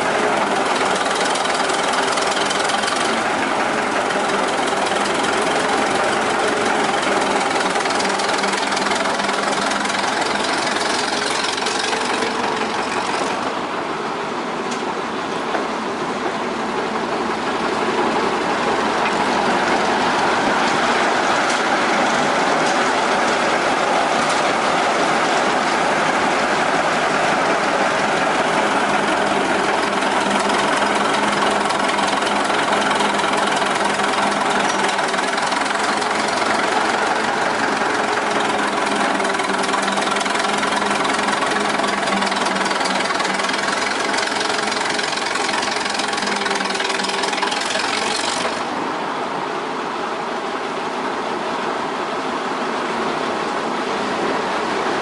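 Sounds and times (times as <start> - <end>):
engine running with rod knock: 0.0 - 13.7, 14.6 - 16.6, 17.2 - 48.8.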